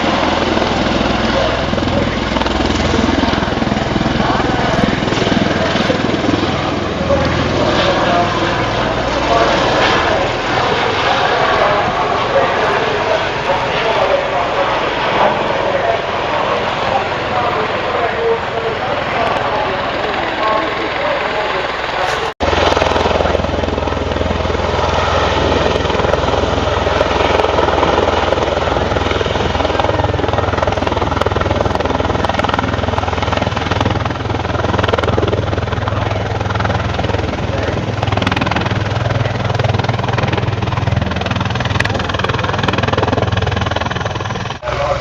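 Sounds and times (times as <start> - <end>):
helicopter flying overhead: 0.0 - 45.0.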